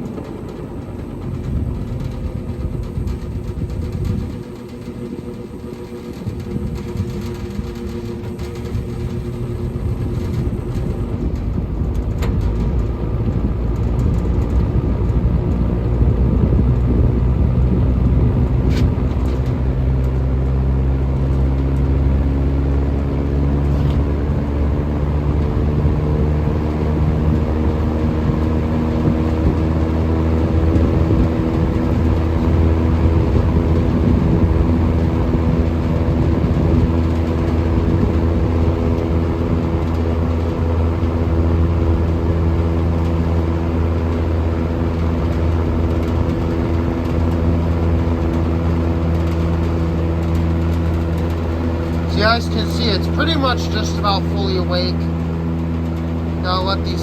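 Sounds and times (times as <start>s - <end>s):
box fan whoosh and motor hum: 0.0s - 57.0s.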